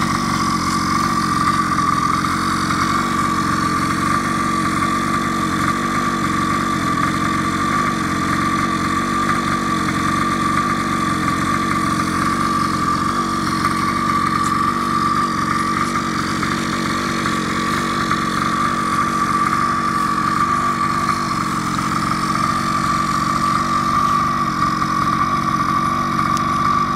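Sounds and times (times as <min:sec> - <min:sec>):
small engine idling: 0:00.0 - 0:26.9.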